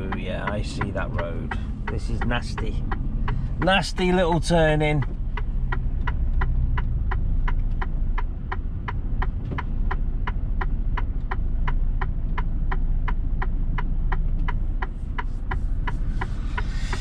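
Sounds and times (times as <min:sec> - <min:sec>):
diesel engine idling: 0:00.0 - 0:17.0
turn indicator ticking: 0:00.0 - 0:17.0.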